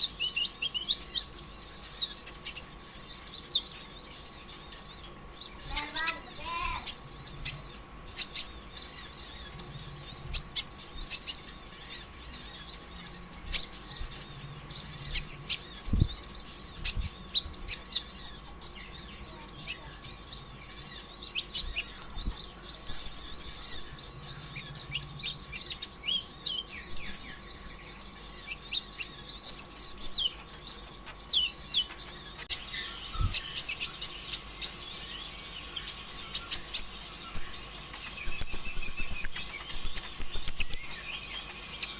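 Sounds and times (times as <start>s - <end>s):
faint steady hum: 0.0s - 41.9s
sunbird twittering song: 0.0s - 41.9s.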